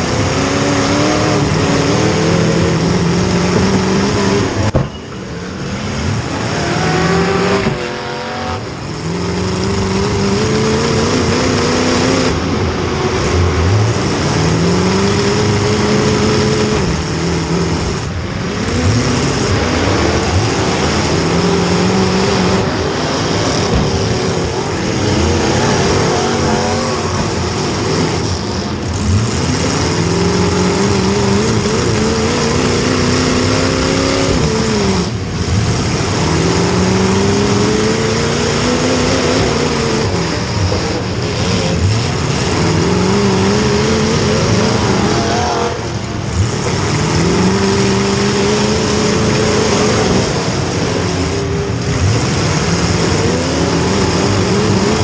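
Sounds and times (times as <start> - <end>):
car engine revving hard: 0.0 - 4.9, 5.5 - 55.0.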